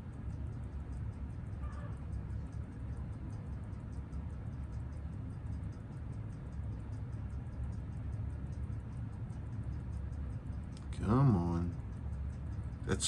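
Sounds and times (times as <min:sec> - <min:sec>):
low hum: 0:00.0 - 0:13.0
watch ticking: 0:00.0 - 0:13.0.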